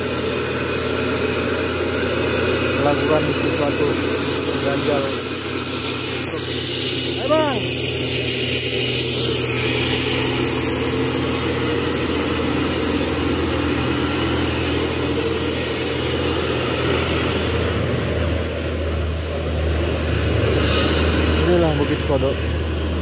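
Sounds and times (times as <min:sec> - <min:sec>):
diesel truck engines droning: 0:00.0 - 0:23.0
truck passing close by: 0:00.0 - 0:23.0.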